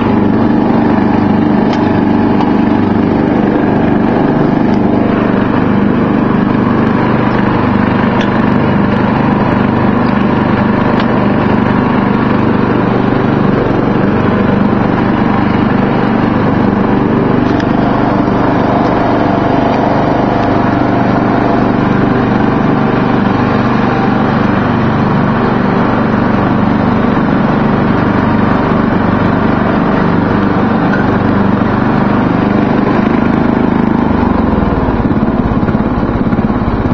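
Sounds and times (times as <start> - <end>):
riding lawn mower engine running: 0.0 - 36.9.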